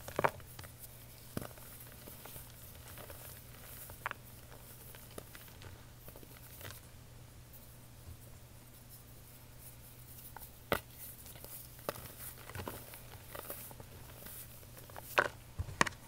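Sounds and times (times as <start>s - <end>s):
fingers patting powder: 0.0s - 6.9s, 9.7s - 16.0s.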